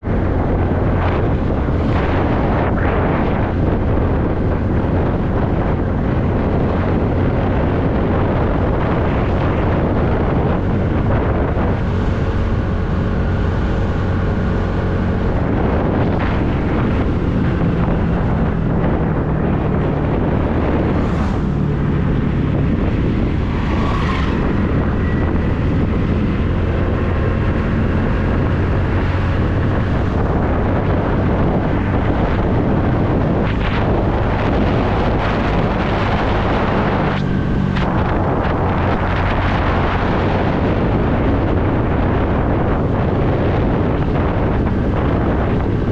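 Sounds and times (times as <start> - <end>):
wind noise on microphone: 0.0 - 45.9.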